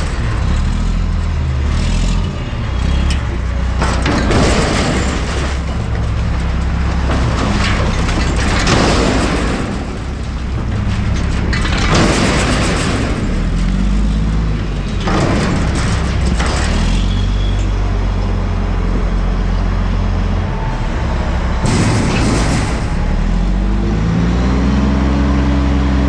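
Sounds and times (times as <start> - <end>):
garbage truck engine running: 0.0 - 26.0
refuse crashing and rattling: 2.8 - 23.8.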